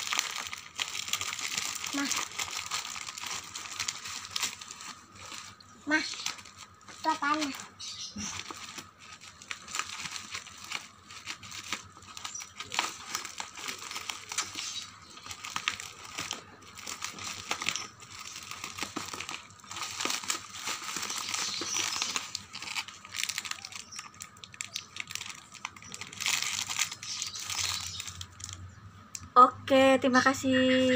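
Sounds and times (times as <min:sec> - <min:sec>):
plastic packaging crinkling: 0:00.0 - 0:28.7.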